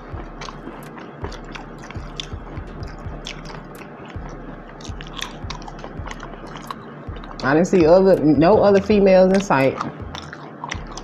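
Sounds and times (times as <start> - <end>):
person chewing food: 0.0 - 7.8, 8.8 - 11.0.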